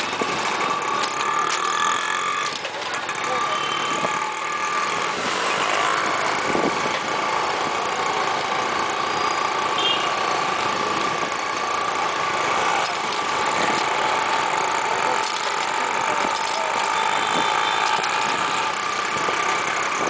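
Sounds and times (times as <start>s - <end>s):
steady whine: 0.0s - 20.0s
street traffic engines: 0.0s - 20.0s.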